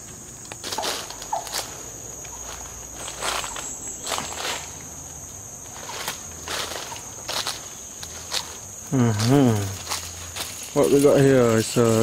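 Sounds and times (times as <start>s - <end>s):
forest insects droning: 0.0s - 12.0s
footsteps crunching through dry leaves: 0.5s - 12.0s.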